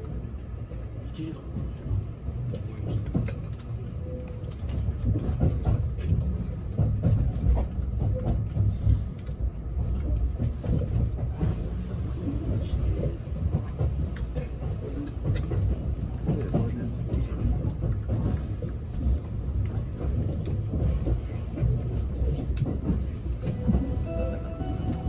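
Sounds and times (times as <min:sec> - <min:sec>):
train cabin rumble: 0:00.0 - 0:25.0.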